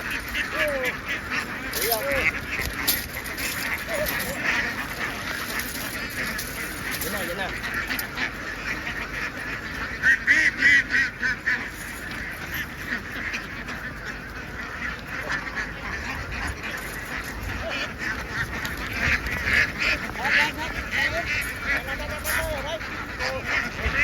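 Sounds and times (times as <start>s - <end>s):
flock of ducks quacking: 0.0s - 24.0s.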